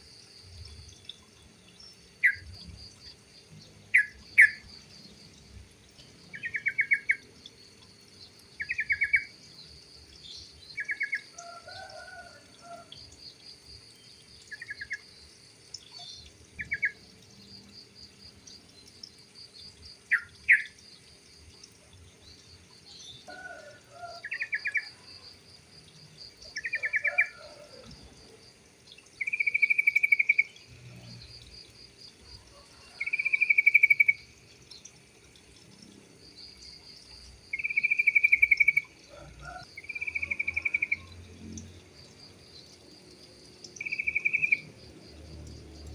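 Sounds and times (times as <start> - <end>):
faint high insect trill: 0.0 - 45.9.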